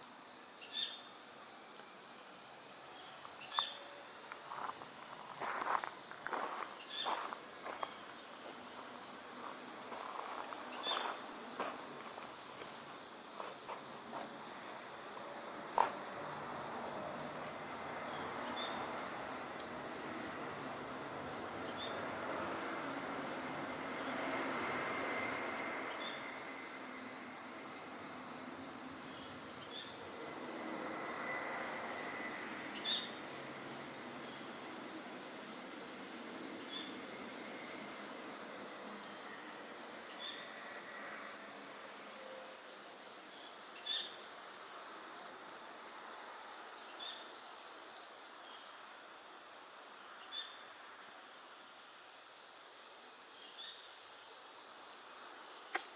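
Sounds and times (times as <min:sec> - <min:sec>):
cricket chirping: 0:00.0 - 0:55.9.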